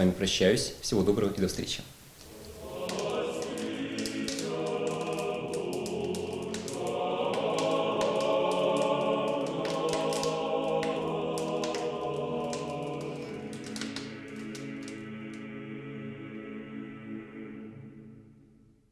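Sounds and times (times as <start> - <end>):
choir singing: 2.3 - 18.6.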